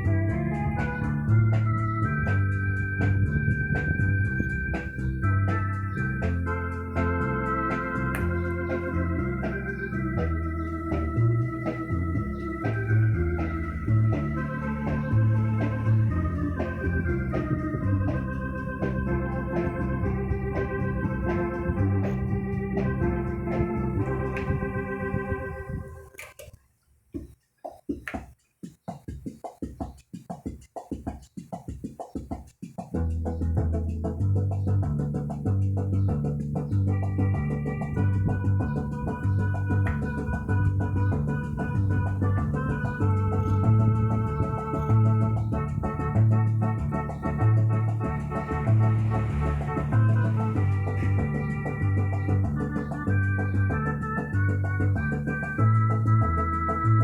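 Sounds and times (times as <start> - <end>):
bass line: 0.0 - 26.1, 33.0 - 57.0
electronic organ chords: 0.0 - 26.2, 33.0 - 57.0.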